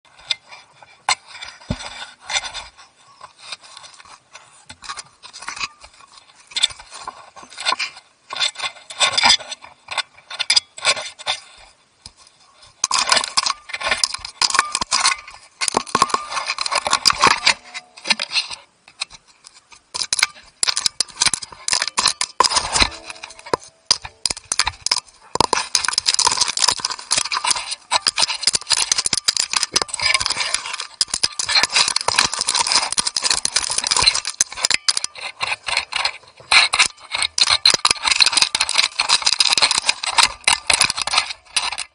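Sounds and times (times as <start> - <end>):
claws scraping ground: 0.1 - 41.9
grit pattering on camera: 0.1 - 41.9.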